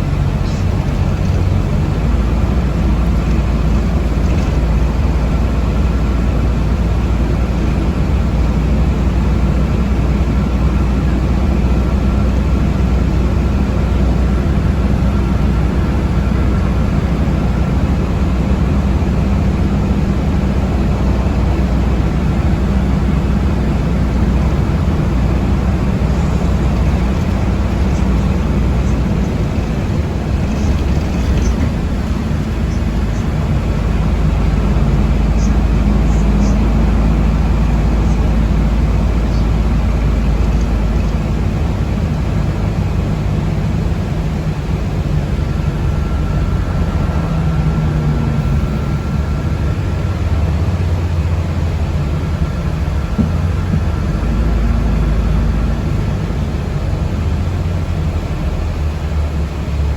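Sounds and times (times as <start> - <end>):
faint steady whine: 0.0 - 59.9
vehicle motor and road rumble: 0.0 - 59.9.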